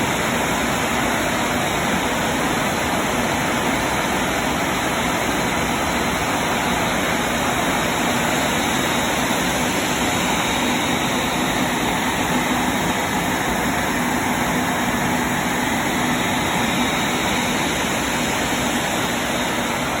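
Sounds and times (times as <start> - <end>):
faint high whine: 0.0 - 20.0
jet engines rushing hiss: 0.0 - 20.0.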